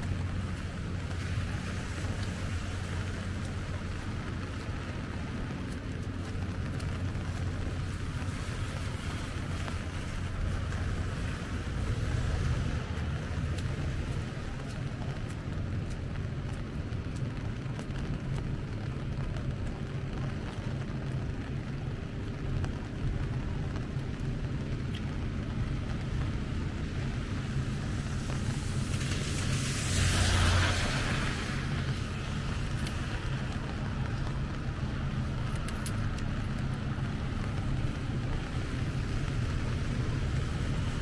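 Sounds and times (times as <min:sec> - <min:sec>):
tyres hissing on wet road: 0:00.0 - 0:17.5, 0:24.6 - 0:41.0
falling rain: 0:00.0 - 0:41.0
traffic rumble: 0:00.0 - 0:41.0.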